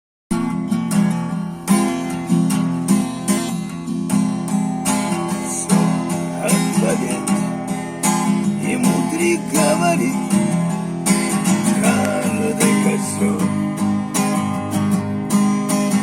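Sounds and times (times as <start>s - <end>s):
acoustic guitar strumming: 0.3s - 16.0s.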